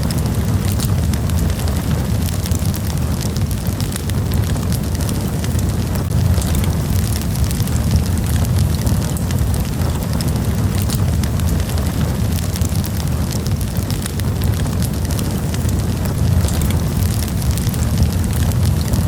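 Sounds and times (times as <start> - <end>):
campfire rumble: 0.0 - 19.0
fire crackles and pops: 0.0 - 19.0.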